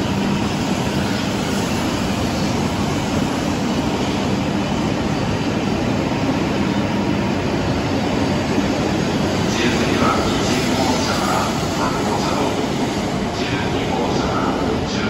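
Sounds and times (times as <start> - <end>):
high-speed train rushing past: 0.0 - 15.0.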